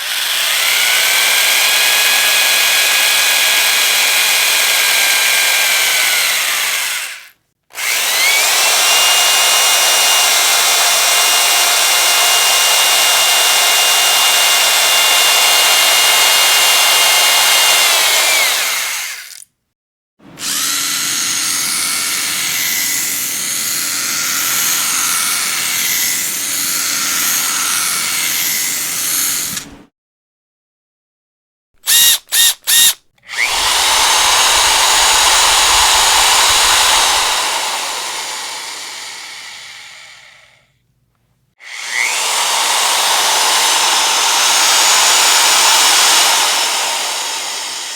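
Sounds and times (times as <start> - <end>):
electric power drill whining: 0.0 - 19.4, 20.3 - 29.7, 31.8 - 40.6, 41.6 - 47.9.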